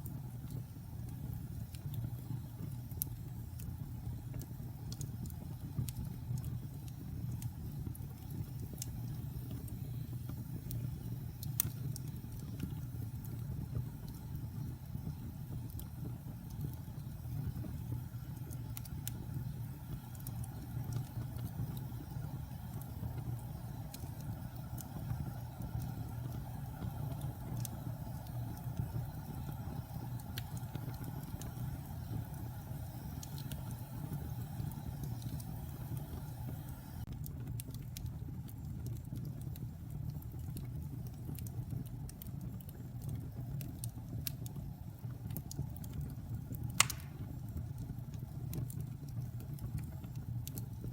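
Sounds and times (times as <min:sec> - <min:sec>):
fire crackling and popping: 0:00.0 - 0:50.9
fire rumbling: 0:00.0 - 0:50.9.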